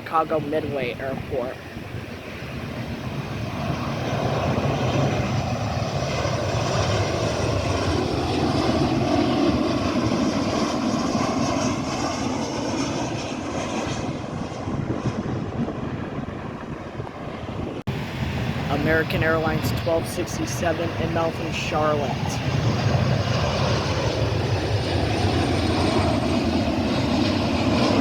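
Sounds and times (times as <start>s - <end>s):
jet engines roaring past: 0.0s - 28.0s.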